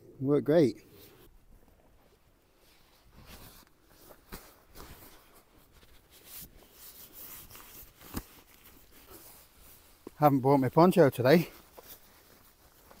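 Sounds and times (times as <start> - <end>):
nylon fabric rustling: 1.7 - 13.0.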